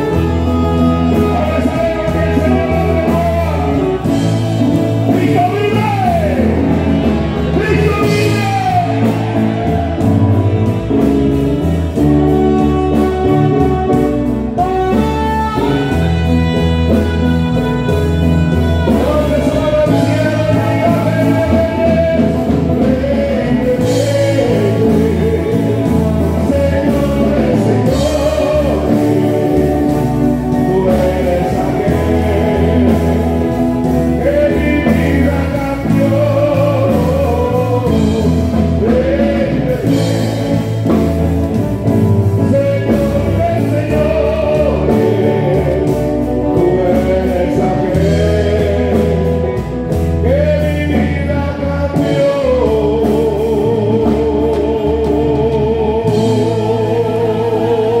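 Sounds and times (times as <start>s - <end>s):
bass: 0.0s - 58.0s
drums: 0.0s - 58.0s
man singing into a microphone: 0.0s - 58.0s.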